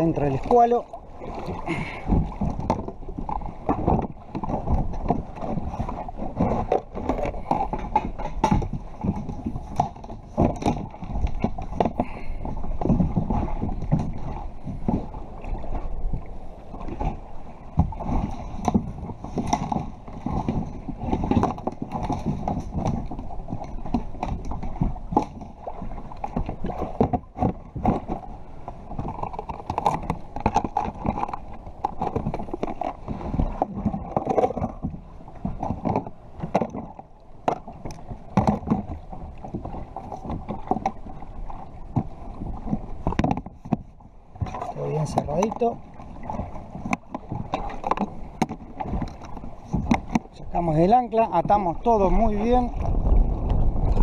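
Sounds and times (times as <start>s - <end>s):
water slapping plastic hull: 0.0s - 54.0s
fishing gear knocking and clattering: 1.7s - 15.1s, 17.8s - 28.3s, 28.9s - 41.1s, 41.9s - 54.0s.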